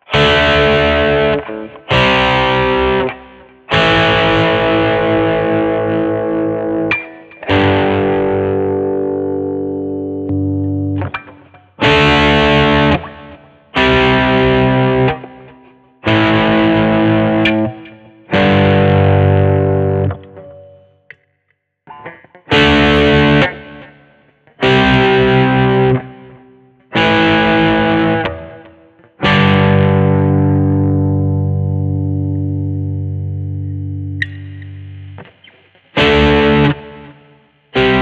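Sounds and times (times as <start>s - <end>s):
distorted electric guitar chords: 0.0s - 21.2s, 21.9s - 38.0s.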